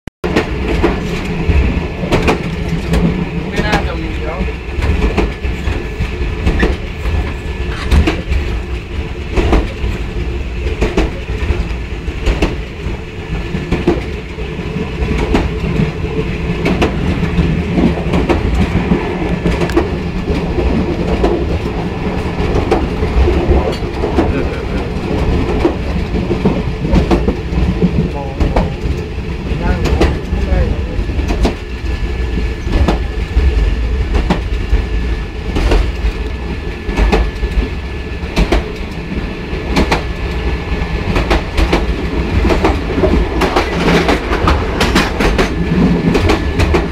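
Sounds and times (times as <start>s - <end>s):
train rumbling: 0.2s - 46.9s
wheels clicking over rail joints: 0.3s - 46.9s.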